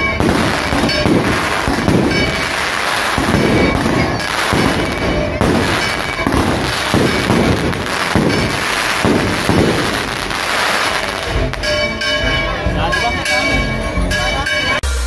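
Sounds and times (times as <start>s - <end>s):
fireworks deep bangs: 0.0s - 13.5s
noisy background: 0.0s - 15.0s.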